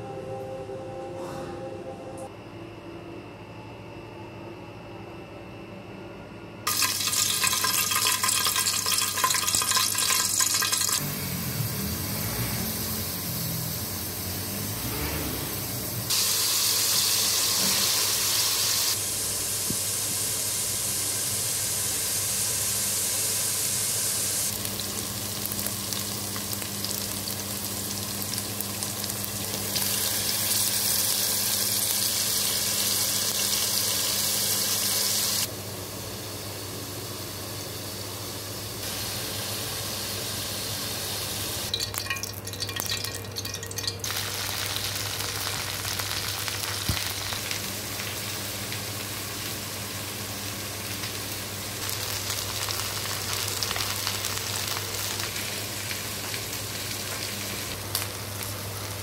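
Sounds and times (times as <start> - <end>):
onions and chicken sizzling in oil: 6.7 - 59.0.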